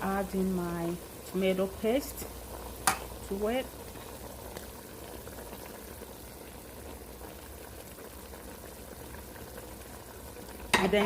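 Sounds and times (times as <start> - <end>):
pot bubbling on stove: 0.0 - 11.0.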